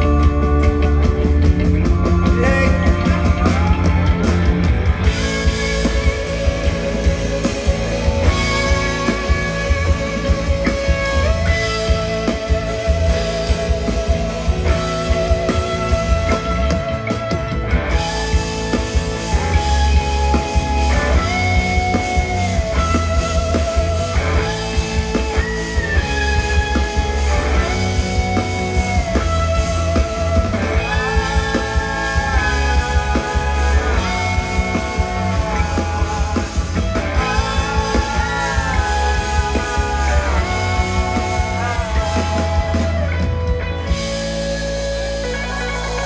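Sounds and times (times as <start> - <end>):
live rock band playing: 0.0 - 46.0.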